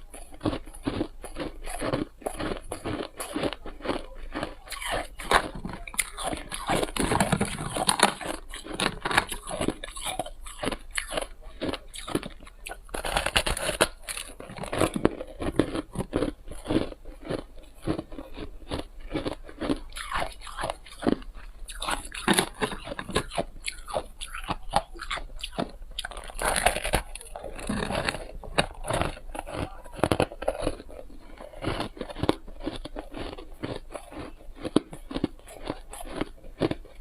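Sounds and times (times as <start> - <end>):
chewing crunchy ice: 0.0 - 37.0.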